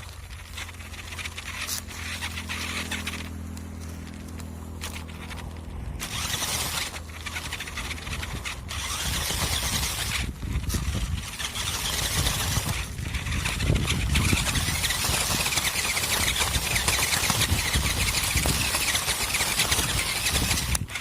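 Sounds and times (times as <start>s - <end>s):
low hum: 0.0s - 21.0s
rc truck motor driving: 0.0s - 21.0s.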